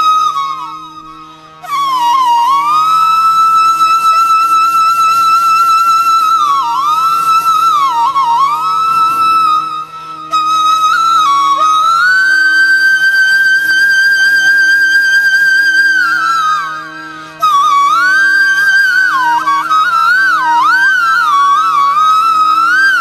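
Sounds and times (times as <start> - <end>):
steady drone: 0.0 - 22.7
solo flute playing: 0.0 - 23.0.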